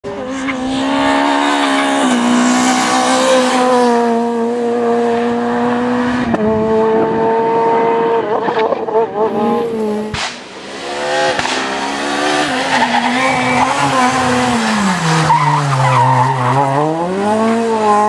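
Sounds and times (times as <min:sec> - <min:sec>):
rally car engine revving hard: 0:00.0 - 0:18.0.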